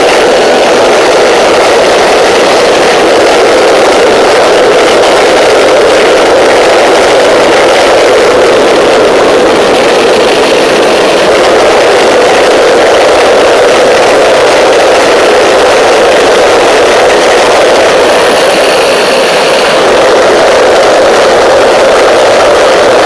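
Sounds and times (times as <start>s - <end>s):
gas turbine engine running: 0.0s - 23.0s.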